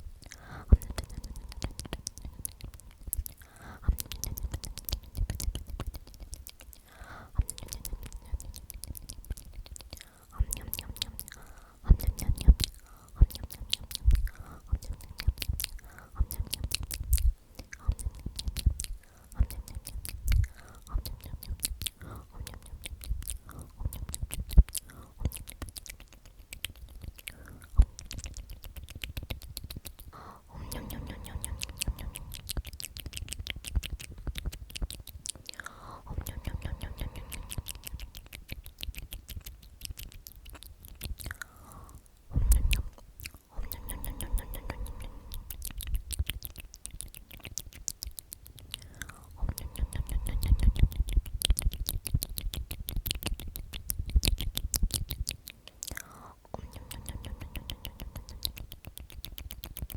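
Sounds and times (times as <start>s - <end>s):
soft breathy whispers: 0.0s - 59.9s
wet mouth clicks and smacks: 0.0s - 59.9s.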